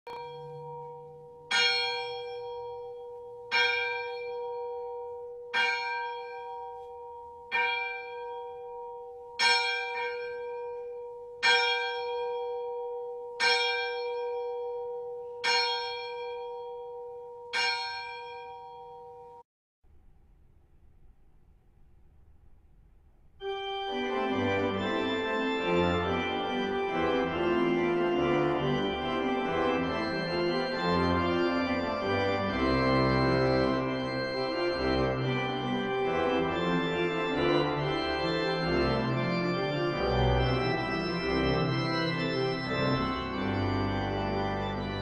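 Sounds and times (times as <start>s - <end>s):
church bell tolling: 0.1s - 19.4s, 23.4s - 45.0s.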